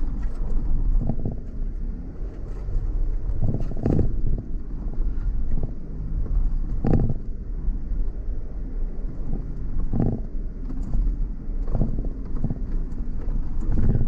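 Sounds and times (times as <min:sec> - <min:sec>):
off-road vehicle rumbling: 0:00.0 - 0:14.0
vehicle thudding over bumps: 0:00.0 - 0:14.0
wind on microphone: 0:00.0 - 0:14.0.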